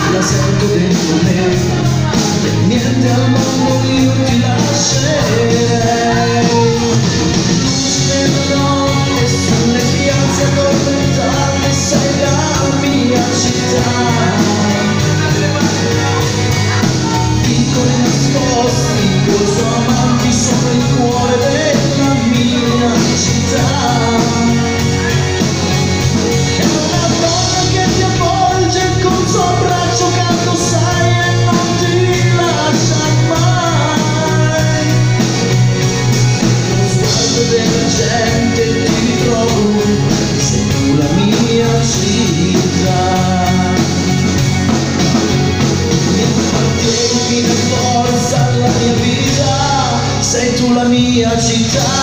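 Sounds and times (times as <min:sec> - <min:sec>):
drum kit: 0:00.0 - 0:52.0
keyboards: 0:00.0 - 0:52.0
person singing: 0:00.0 - 0:52.0.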